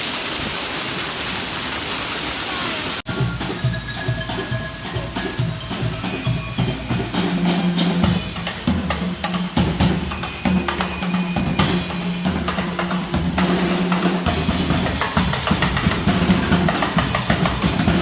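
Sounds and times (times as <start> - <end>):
drum kit beat: 3.1 - 18.0.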